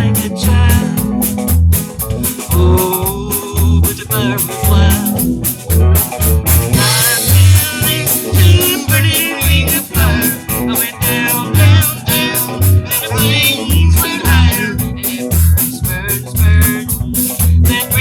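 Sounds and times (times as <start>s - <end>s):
band playing a song: 0.0s - 18.0s
pulsing bass line: 0.0s - 18.0s.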